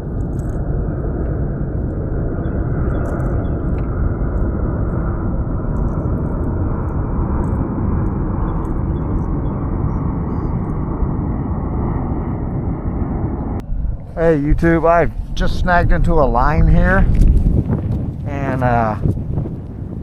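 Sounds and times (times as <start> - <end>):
wind buffeting the microphone: 0.0 - 20.0.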